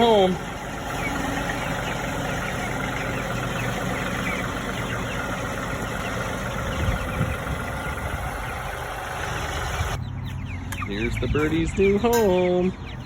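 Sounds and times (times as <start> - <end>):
vehicle engine running: 0.0 - 12.0
chicks peeping: 0.0 - 13.0.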